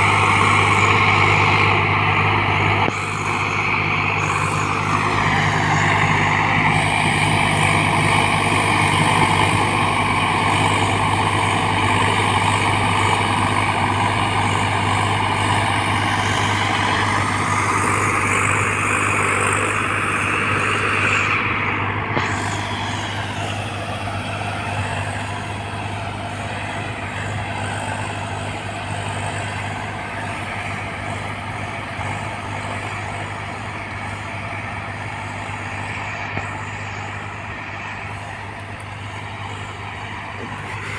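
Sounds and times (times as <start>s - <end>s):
high mechanical whine: 0.0s - 40.9s
tractor diesel engine: 0.0s - 40.9s.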